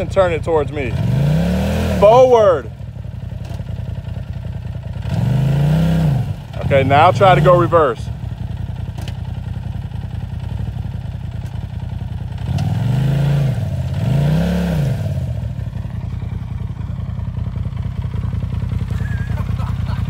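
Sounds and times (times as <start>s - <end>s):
engine idling and revving: 0.0s - 20.0s.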